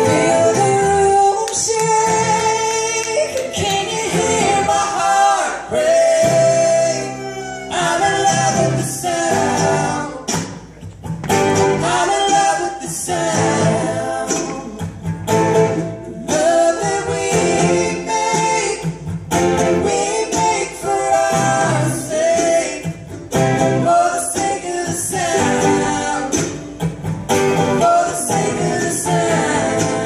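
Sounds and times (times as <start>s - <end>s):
people singing: 0.0s - 10.7s, 11.3s - 30.0s
bluegrass string band playing: 0.0s - 30.0s.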